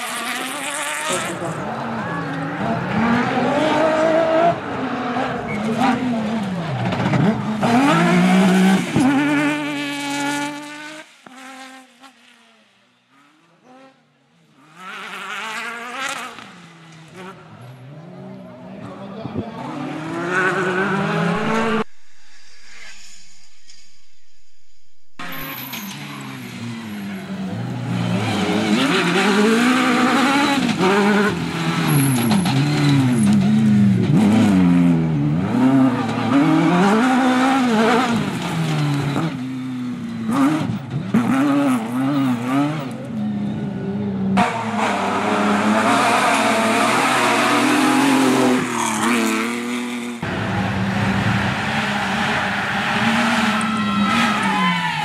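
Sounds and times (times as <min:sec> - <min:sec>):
rally car engines revving: 0:00.0 - 0:22.0, 0:25.2 - 0:55.0.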